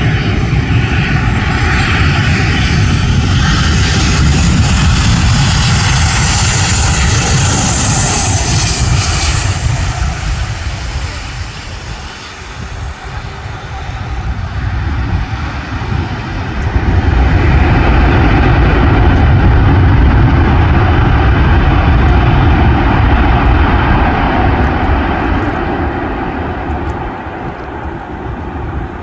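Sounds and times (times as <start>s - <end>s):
jet airliner landing: 0.0s - 29.0s.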